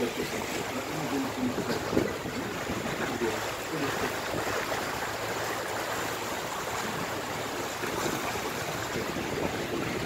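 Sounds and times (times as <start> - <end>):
water rushing along boat hull: 0.0 - 10.0.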